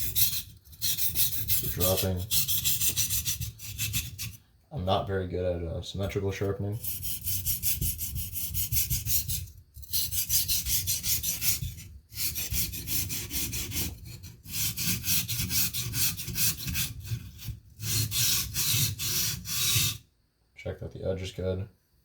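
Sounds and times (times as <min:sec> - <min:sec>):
knife scraping on whetstone: 0:00.0 - 0:04.4, 0:06.8 - 0:20.0.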